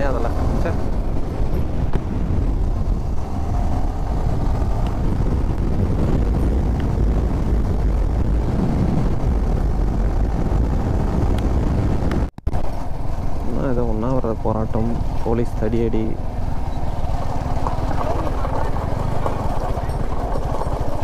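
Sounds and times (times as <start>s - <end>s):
motorcycle engine rumble: 0.0s - 21.0s
wind rush over microphone: 0.0s - 21.0s.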